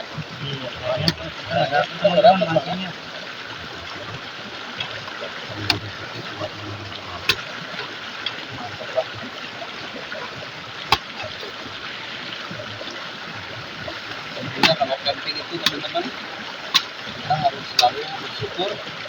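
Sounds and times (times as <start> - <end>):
river stream flowing: 0.0 - 19.0.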